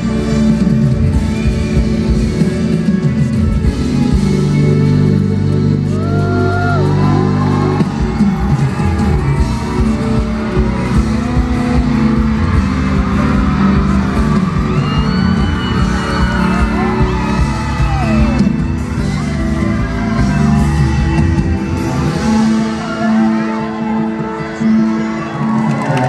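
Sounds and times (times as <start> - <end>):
crowd whooping and cheering: 0.0 - 26.0
live band music: 0.0 - 26.0.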